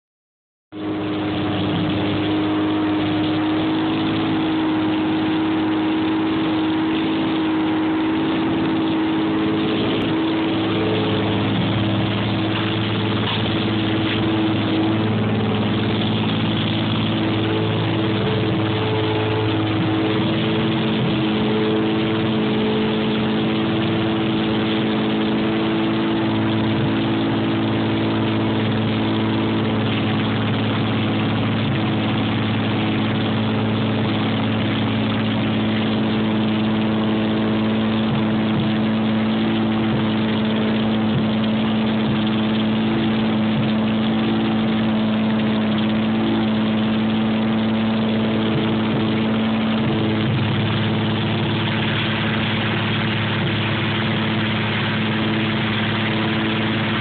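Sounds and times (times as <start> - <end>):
car engine idling: 0.7 - 57.0.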